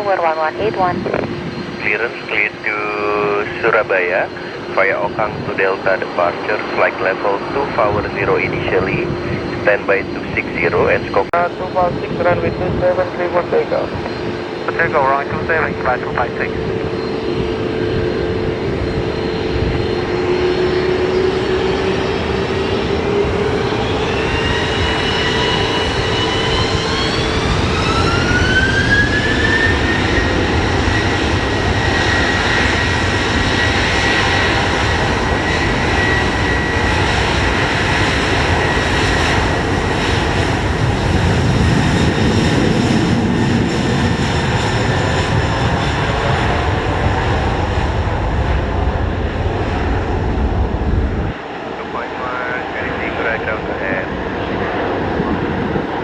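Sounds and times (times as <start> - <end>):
jet engine roar: 0.0 - 56.0
jet engine whine: 0.0 - 56.0.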